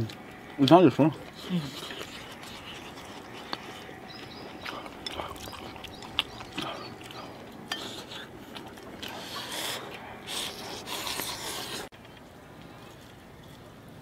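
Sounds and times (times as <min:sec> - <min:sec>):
chewing and slurping: 0:00.0 - 0:12.3.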